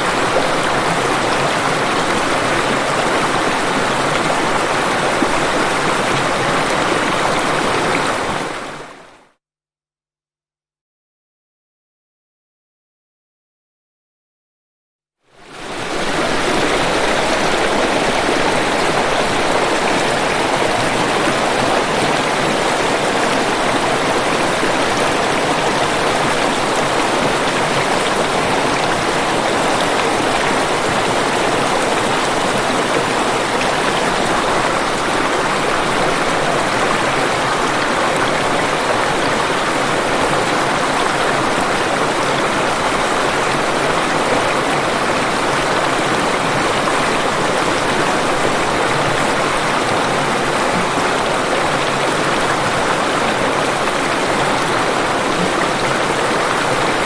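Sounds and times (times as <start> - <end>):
waterfall rushing: 0.0 - 9.1, 15.4 - 57.0.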